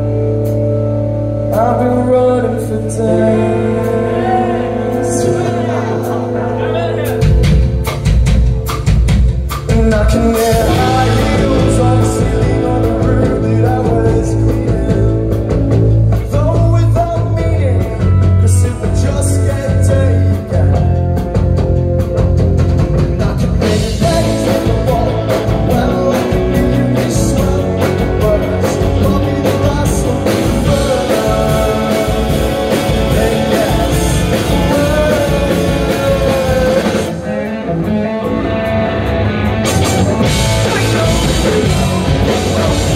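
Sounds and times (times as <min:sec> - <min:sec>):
bass guitar: 0:00.0 - 0:42.9
electric guitars: 0:00.0 - 0:42.9
person singing: 0:01.5 - 0:07.9, 0:09.6 - 0:21.3, 0:22.9 - 0:38.8, 0:39.6 - 0:42.9
drum kit: 0:02.9 - 0:42.9.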